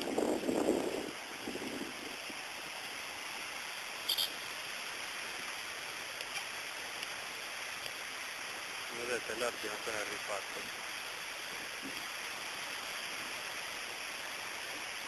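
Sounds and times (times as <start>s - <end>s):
river rushing in flood: 0.0s - 15.0s.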